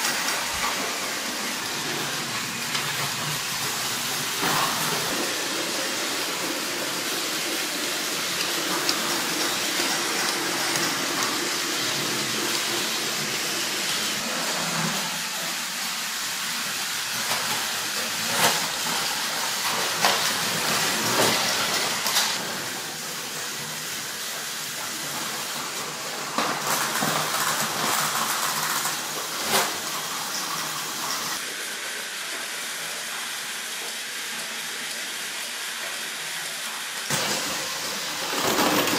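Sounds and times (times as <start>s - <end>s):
toy train motors whirring: 0.0s - 38.9s.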